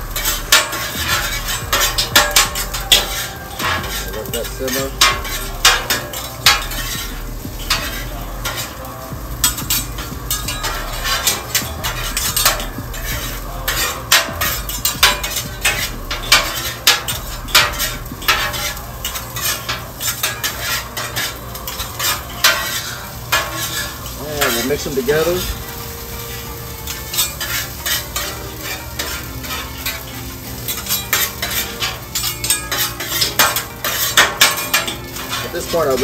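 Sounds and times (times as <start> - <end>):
onions sizzling in oil: 0.0 - 36.0
spatula scraping on griddle: 0.0 - 36.0.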